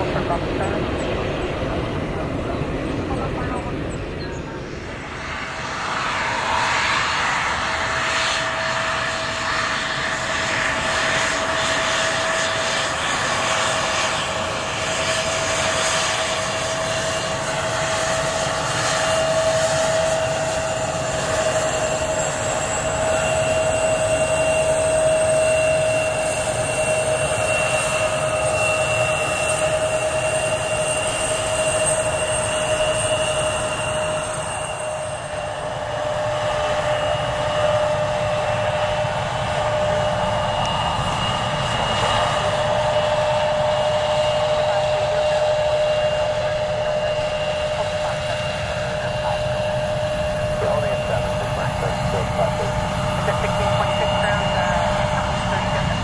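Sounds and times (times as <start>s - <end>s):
jet engines running with whine: 0.0s - 56.0s.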